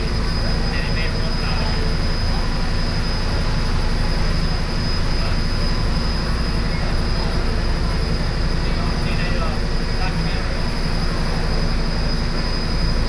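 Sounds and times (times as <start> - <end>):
large vehicle engine rumble: 0.0 - 13.0.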